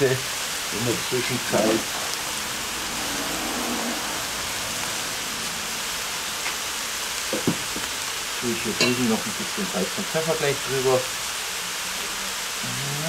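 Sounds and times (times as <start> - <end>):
mushrooms sizzling in a pot: 0.0 - 13.0.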